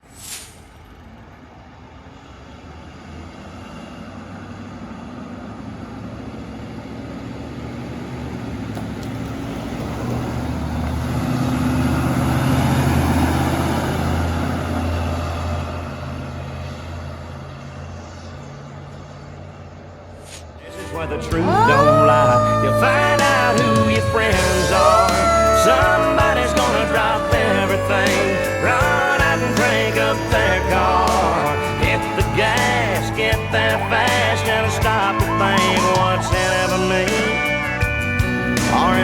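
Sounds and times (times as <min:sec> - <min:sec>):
truck driving past: 0:00.6 - 0:39.0.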